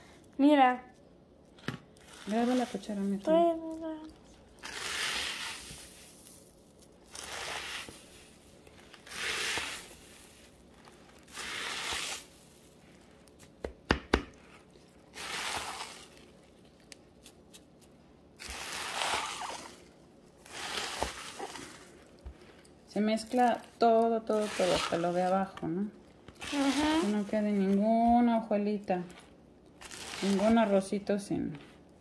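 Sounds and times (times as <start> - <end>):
spoon stirring sticky cereal: 2.0 - 13.5, 14.6 - 25.6, 26.3 - 28.3, 28.9 - 30.9.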